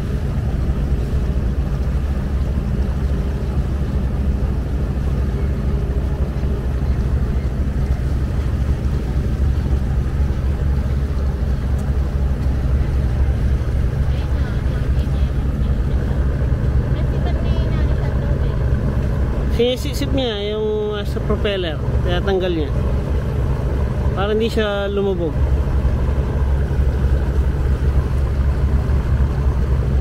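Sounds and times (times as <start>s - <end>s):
boat diesel engine drone: 0.0s - 30.0s.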